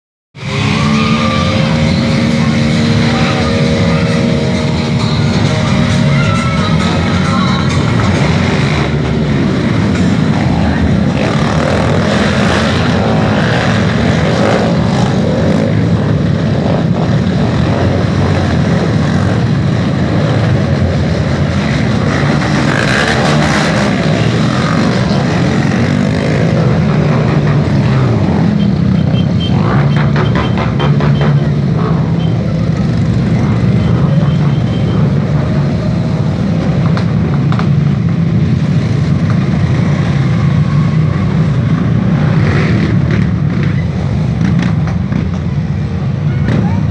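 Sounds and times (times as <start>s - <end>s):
motorcycle engines running: 0.4s - 46.9s.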